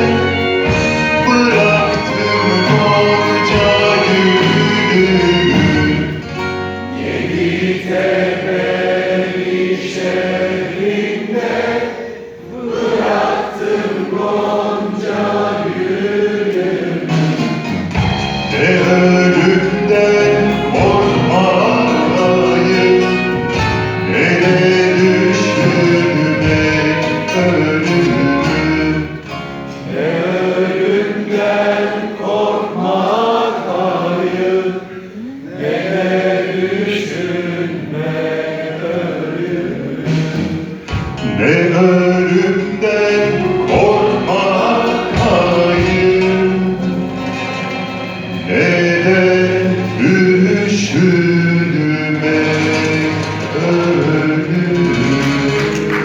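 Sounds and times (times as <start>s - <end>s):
live orchestral music: 0.0s - 30.6s, 40.0s - 56.0s
voices singing: 0.0s - 56.0s.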